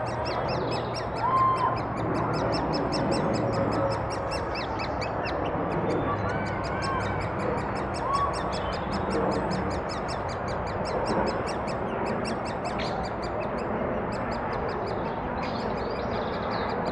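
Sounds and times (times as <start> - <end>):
nestlings begging calls: 0.0 - 16.9.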